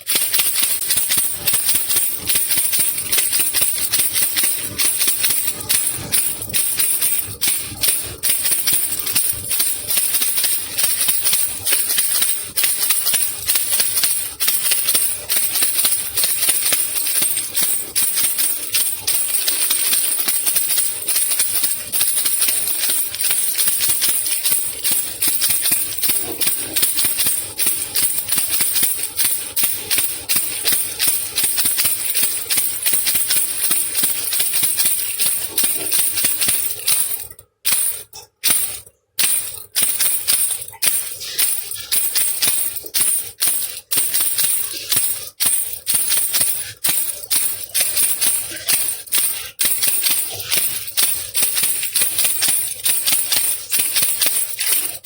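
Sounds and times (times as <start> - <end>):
baby rattle shaken: 0.0 - 55.0.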